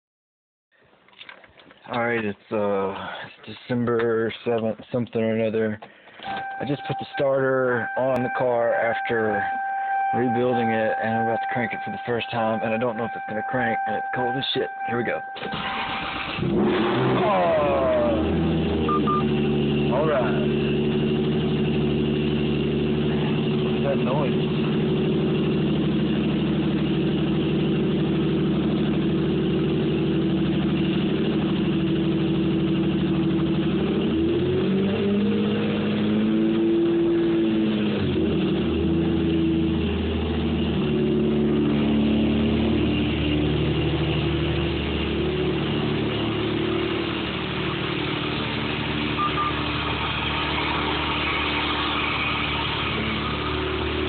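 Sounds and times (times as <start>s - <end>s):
car engine idling and revving: 6.2s - 54.0s.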